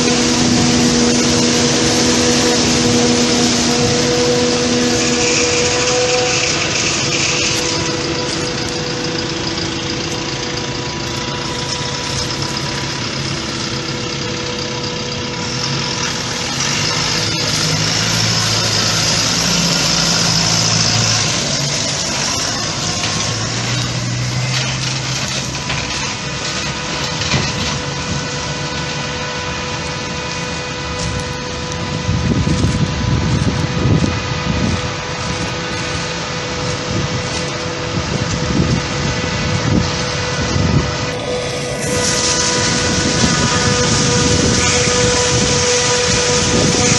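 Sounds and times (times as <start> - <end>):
deeper engine note: 0.0 - 46.9
steady machine whine: 0.0 - 46.9
tractor and harvester engines: 0.0 - 46.9.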